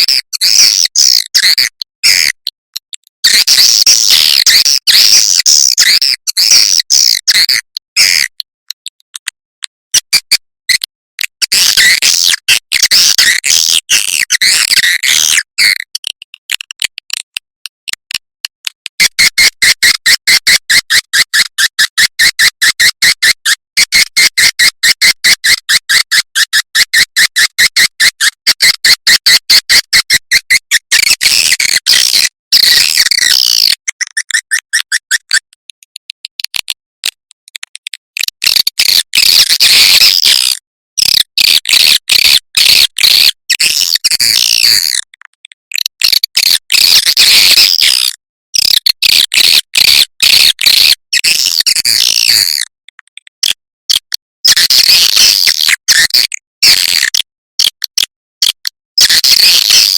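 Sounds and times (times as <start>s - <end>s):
fast repeating short chirps: 0.0s - 45.1s, 45.7s - 59.9s.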